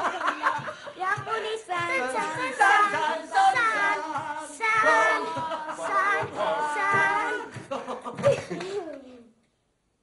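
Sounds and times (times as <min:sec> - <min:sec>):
group singing unaccompanied: 0:00.0 - 0:08.2.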